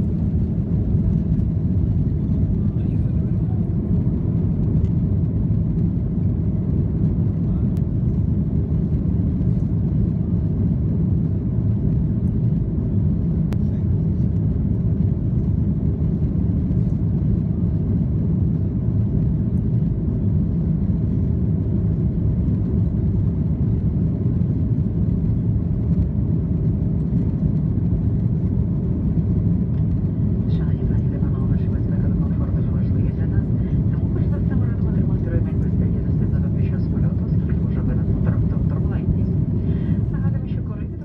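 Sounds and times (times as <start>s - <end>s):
airliner engine rumble: 0.0s - 41.0s.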